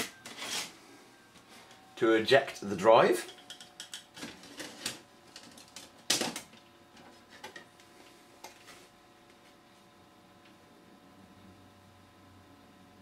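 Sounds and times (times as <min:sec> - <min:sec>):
computer hum: 0:00.0 - 0:13.0.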